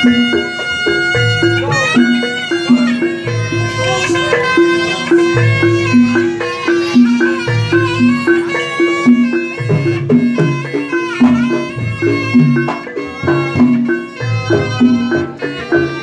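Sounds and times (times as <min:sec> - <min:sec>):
drum strokes: 0:00.0 - 0:16.0
shrill reed shawm melody: 0:00.0 - 0:16.0.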